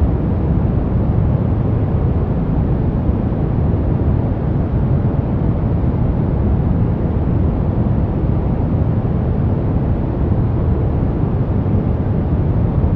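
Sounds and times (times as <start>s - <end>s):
steady deep rumbling noise: 0.0s - 12.9s.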